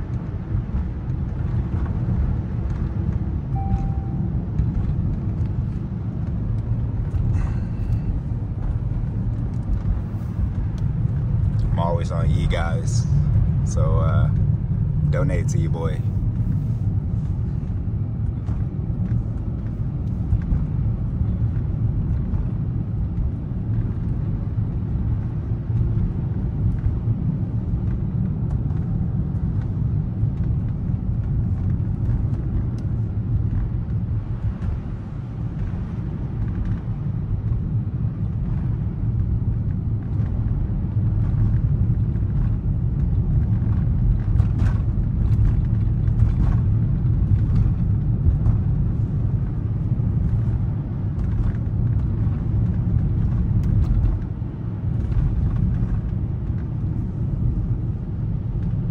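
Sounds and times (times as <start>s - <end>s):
car driving on snowy road: 0.0s - 58.9s.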